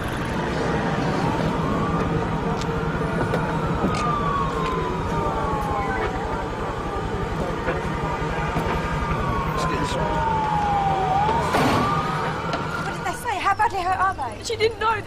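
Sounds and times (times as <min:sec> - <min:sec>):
siren wailing: 0:00.0 - 0:14.4.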